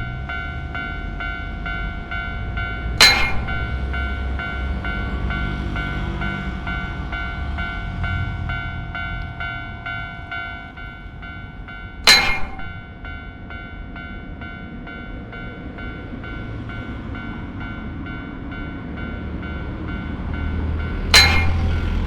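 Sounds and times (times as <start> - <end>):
level crossing warning bell: 0.0 - 22.0
train low rumble: 0.0 - 22.0.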